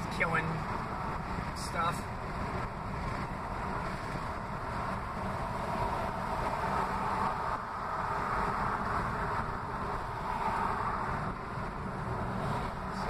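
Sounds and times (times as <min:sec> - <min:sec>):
road and wind noise in a car: 0:00.0 - 0:13.0.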